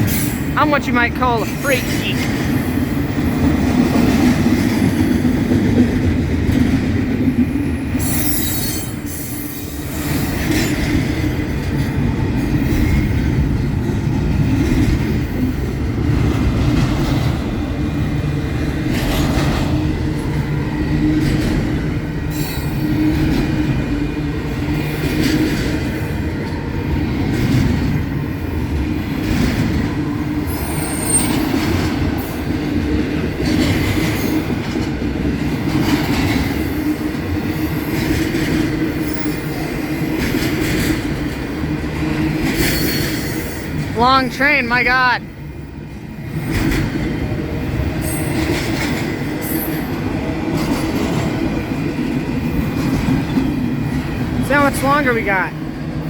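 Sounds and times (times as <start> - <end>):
freight train rumbling on rails: 0.0 - 44.2, 44.9 - 56.0.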